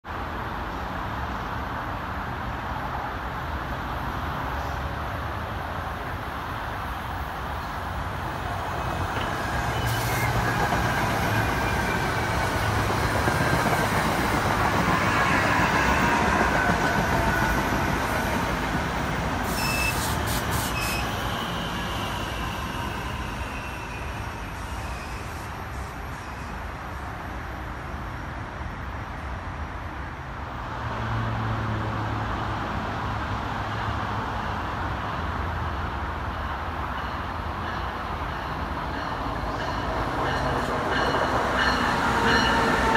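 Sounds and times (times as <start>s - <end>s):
train wheels on rails: 0.6s - 42.9s.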